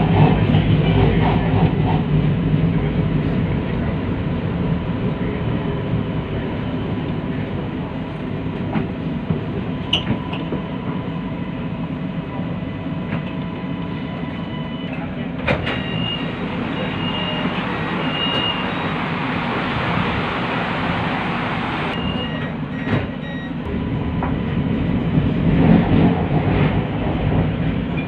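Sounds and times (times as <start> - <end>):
metro train rumbling on track: 0.0 - 28.0.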